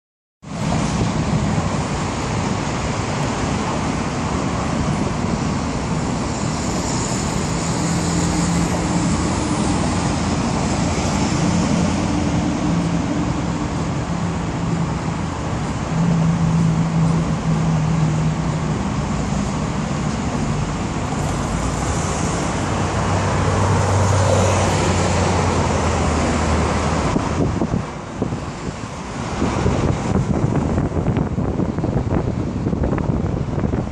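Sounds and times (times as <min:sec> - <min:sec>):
road traffic: 0:00.4 - 0:33.9
car engines idling and pulling away: 0:00.5 - 0:33.9.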